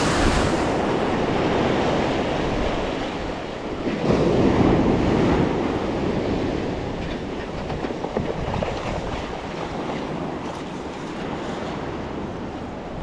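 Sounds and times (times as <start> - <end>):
surf washing in: 0.0 - 13.0
wind rumbling on microphone: 0.0 - 13.0.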